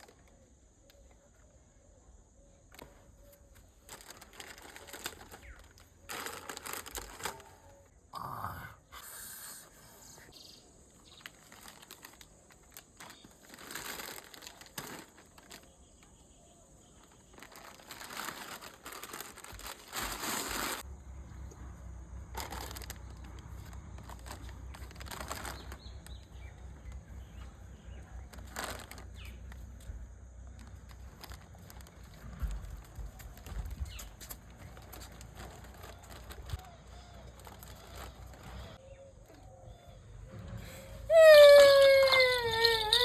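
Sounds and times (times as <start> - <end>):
plastic wrapper crinkling: 2.7 - 7.9, 10.4 - 20.9, 22.2 - 39.4, 41.1 - 43.0.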